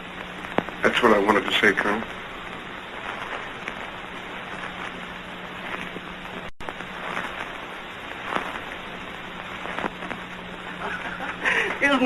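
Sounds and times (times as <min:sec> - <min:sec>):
film soundtrack hiss and crackle: 0:00.0 - 0:12.0
low steady hum: 0:00.0 - 0:12.0.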